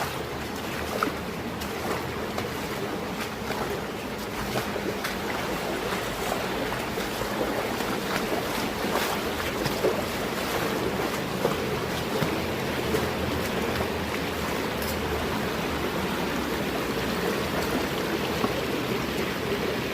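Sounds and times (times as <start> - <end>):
small water splashes: 0.0 - 19.9
stream water rushing: 0.0 - 19.9.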